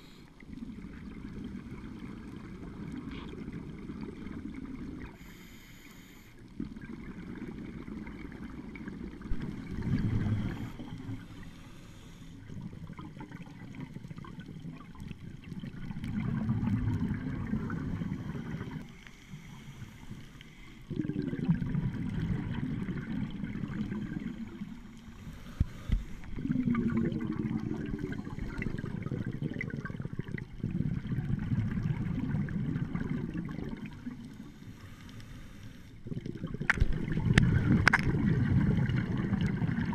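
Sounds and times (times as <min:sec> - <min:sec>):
underwater exhalation bubbles gurgling: 0:00.0 - 0:05.3, 0:06.4 - 0:11.4, 0:12.4 - 0:18.8, 0:20.8 - 0:25.2, 0:26.2 - 0:34.6, 0:36.0 - 0:39.9.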